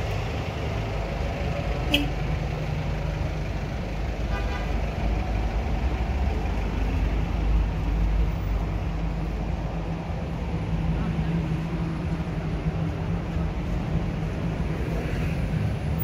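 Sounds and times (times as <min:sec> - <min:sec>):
city road traffic rumble: 0:00.0 - 0:16.0.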